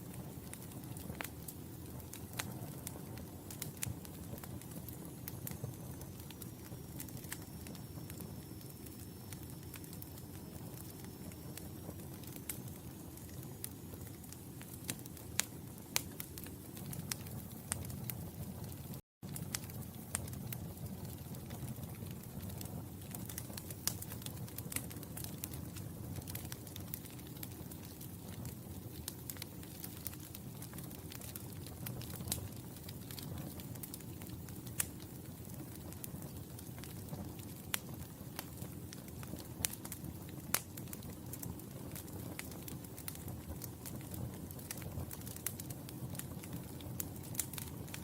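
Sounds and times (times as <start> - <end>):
low rumble of flames: 0.0 - 48.0
wood fire crackling: 0.0 - 48.0.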